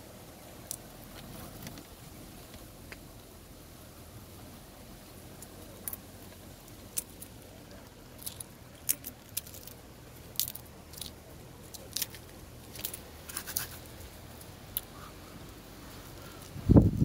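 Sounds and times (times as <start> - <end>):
cocoa husks cracking: 0.4 - 3.3, 4.9 - 16.6.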